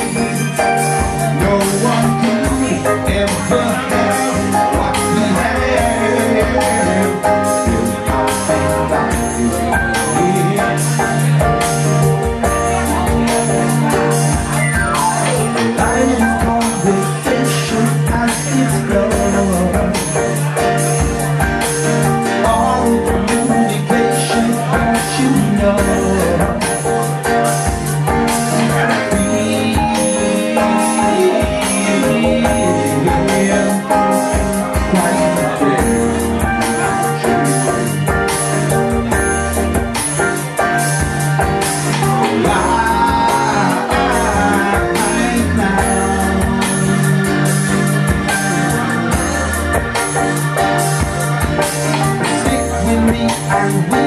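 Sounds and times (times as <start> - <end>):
person singing: 0.0 - 39.1, 41.4 - 54.0
live band playing: 0.0 - 54.0.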